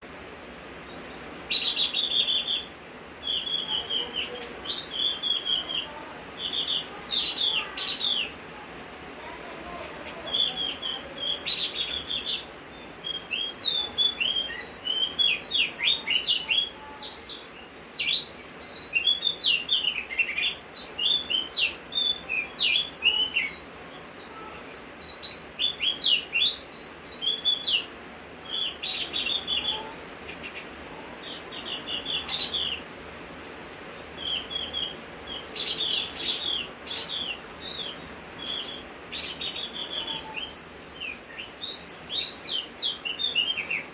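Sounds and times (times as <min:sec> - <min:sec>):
bird singing high chirps: 0:00.0 - 0:43.9
rain hiss: 0:00.0 - 0:43.9.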